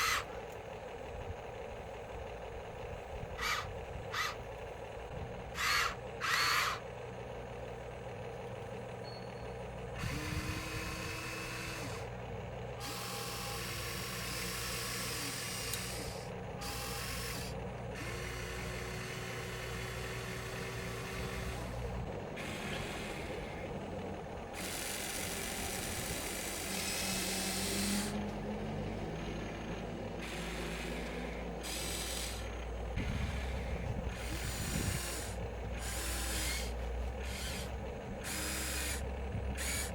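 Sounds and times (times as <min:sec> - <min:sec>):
small electric motors whirring: 0:00.0 - 0:00.6, 0:02.8 - 0:07.0, 0:09.9 - 0:12.2, 0:12.8 - 0:28.4, 0:29.2 - 0:39.9
steady low hum: 0:00.0 - 0:39.9.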